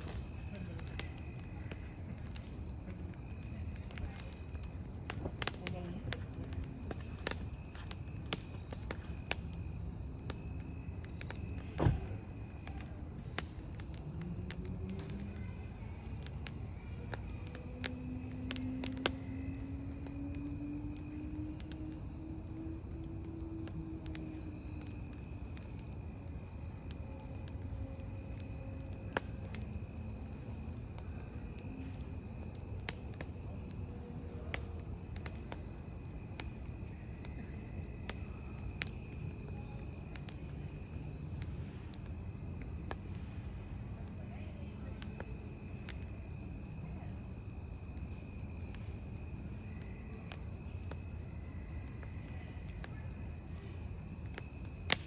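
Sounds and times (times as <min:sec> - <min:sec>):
campfire crackling and popping: 0:00.0 - 0:55.0
crickets trilling: 0:00.0 - 0:55.0.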